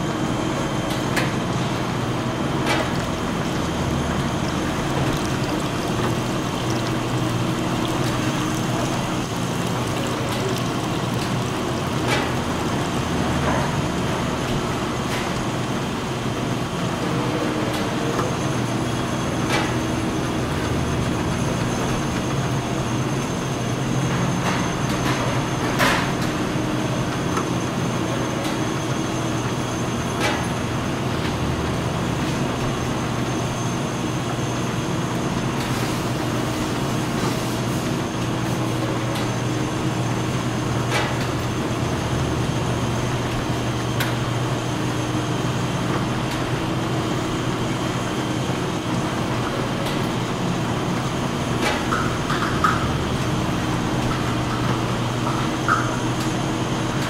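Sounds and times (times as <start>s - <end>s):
machinery hum and hiss: 0.0s - 57.0s.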